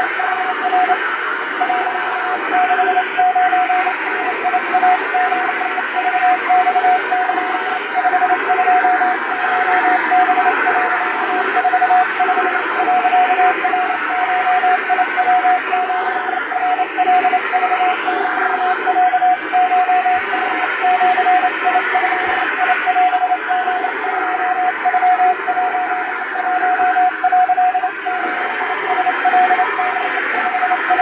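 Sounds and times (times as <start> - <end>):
morse code tone: 0.0 - 1.0, 1.6 - 31.0.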